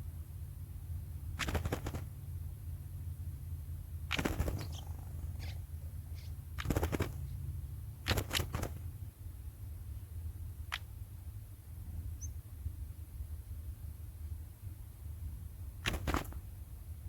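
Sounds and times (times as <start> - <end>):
steady low rumble: 0.0 - 15.8.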